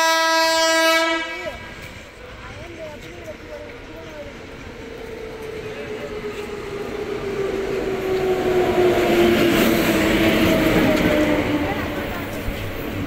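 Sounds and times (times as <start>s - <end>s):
passenger train rumble: 0.0s - 13.0s.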